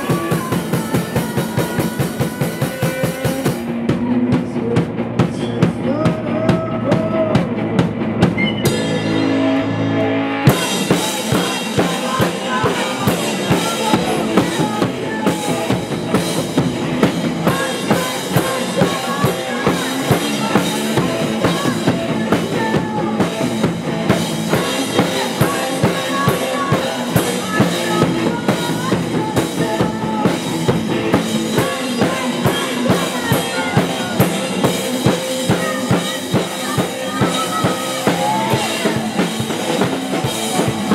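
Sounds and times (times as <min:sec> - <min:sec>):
person singing through pa: 0:00.0 - 0:08.0, 0:10.4 - 0:40.9
drum kit beat: 0:00.0 - 0:40.9
electric guitar: 0:00.0 - 0:40.9.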